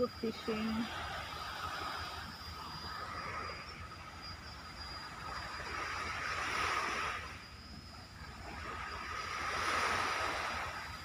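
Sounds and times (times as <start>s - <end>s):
faint steady hum: 0.0s - 11.0s
gentle waves on sandy beach: 0.0s - 11.0s.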